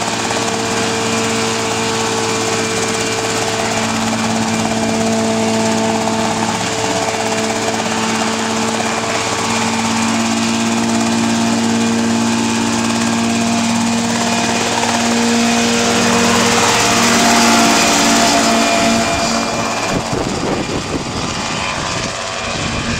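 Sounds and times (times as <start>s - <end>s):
helicopter engine and rotor whir: 0.0s - 22.9s.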